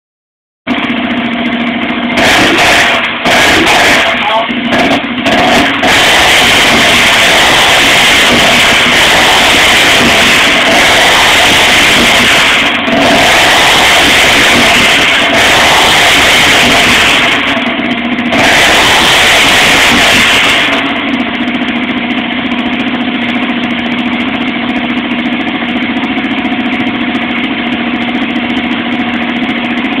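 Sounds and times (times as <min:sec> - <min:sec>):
motorcycle engine revving and idling: 0:00.7 - 0:30.0.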